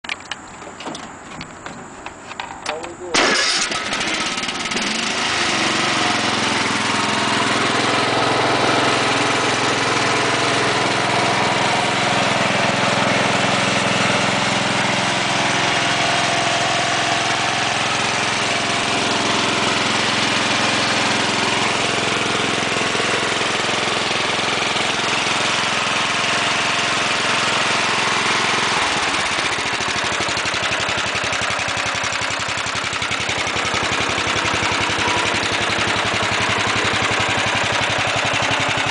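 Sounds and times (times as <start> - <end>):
riding lawn tractor engine running: 0.0 - 38.9.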